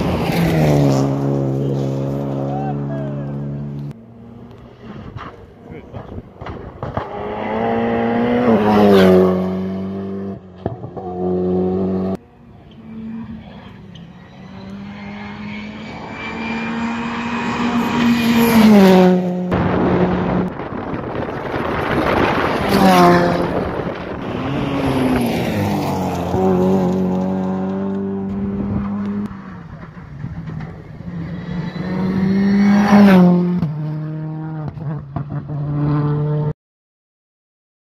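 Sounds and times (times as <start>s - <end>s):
rally cars racing past: 0.0s - 36.5s.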